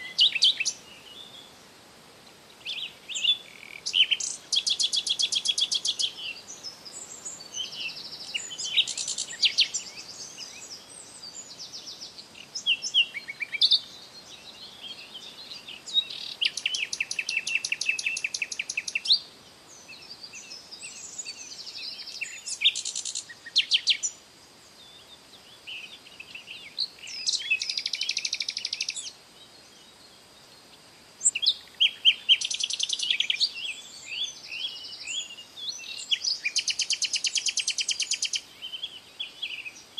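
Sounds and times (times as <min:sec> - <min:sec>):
faint high hiss: 0:00.0 - 0:39.9
songbirds trilling and chirping: 0:00.0 - 0:39.9.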